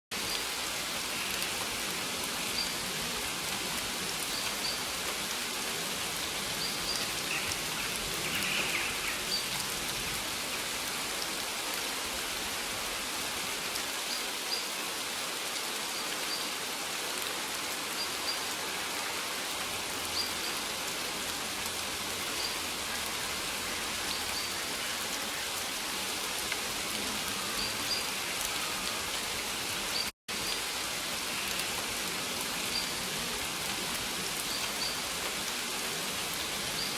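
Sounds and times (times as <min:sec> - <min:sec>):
rain falling: 0:00.1 - 0:36.9.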